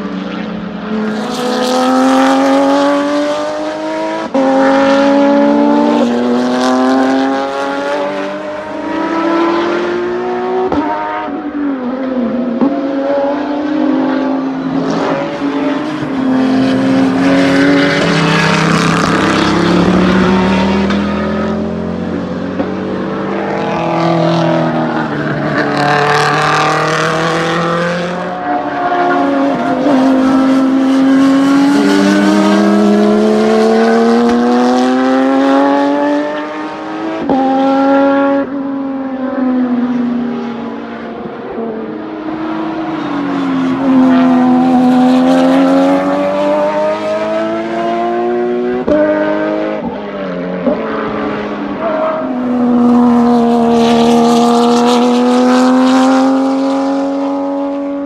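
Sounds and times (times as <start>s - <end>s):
race car engines accelerating: 0.0s - 58.0s
race cars passing: 0.0s - 58.0s.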